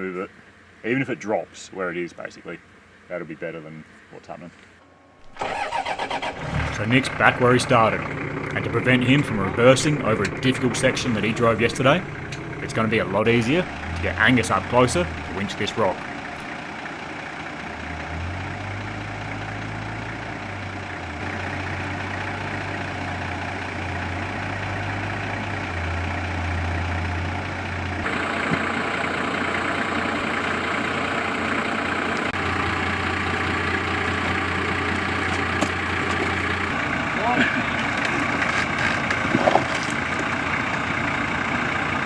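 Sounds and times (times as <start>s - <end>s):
vehicle engine idling: 5.2s - 42.0s.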